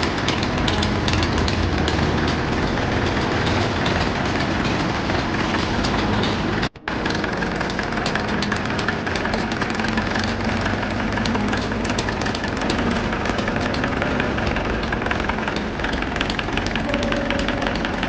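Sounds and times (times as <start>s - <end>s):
tractor engine clattering: 0.0s - 18.0s.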